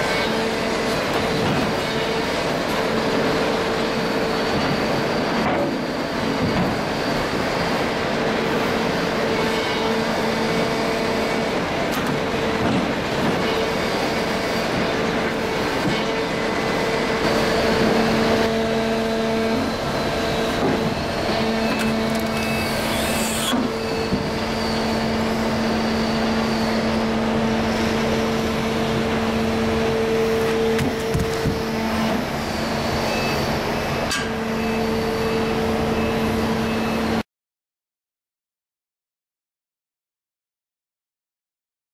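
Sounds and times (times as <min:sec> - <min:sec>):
scrap baler machine running: 0:00.0 - 0:37.2.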